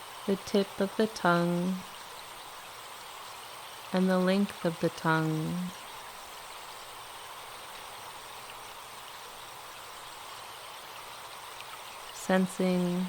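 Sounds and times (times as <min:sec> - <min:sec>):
forest stream rushing: 0:00.0 - 0:13.0.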